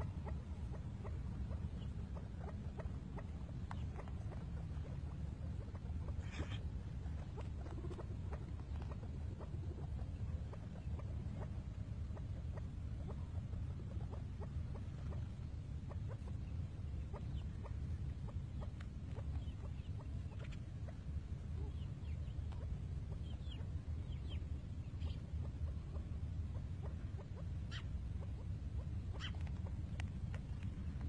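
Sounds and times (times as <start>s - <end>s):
birds pecking at grain: 0.0s - 24.0s, 24.6s - 31.0s
soft bird chirps and clucks: 0.0s - 31.0s
steady low rumble: 0.0s - 31.0s.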